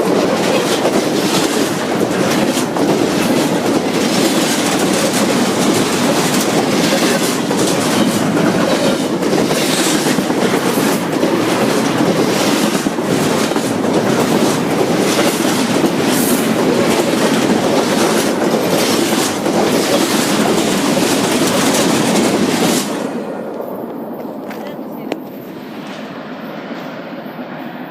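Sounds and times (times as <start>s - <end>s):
train wheels clacking on rails: 0.0s - 25.3s.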